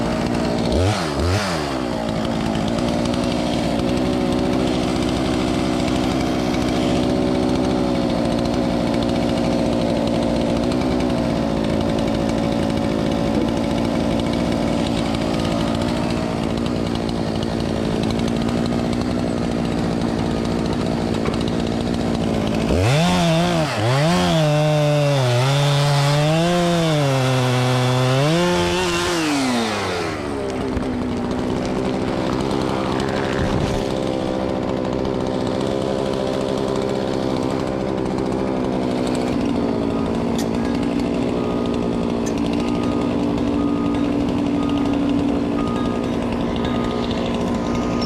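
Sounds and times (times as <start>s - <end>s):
chainsaw cutting into tree: 0.0s - 48.0s.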